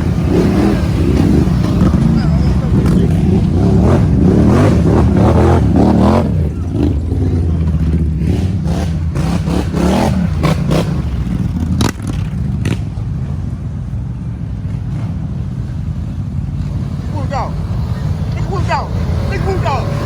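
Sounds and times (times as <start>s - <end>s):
quad bike engine revving: 0.0s - 20.0s.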